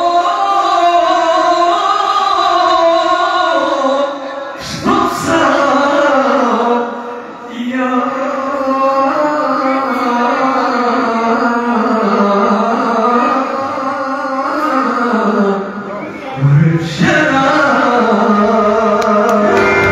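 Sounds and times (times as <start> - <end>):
man singing through pa system: 0.0 - 19.9.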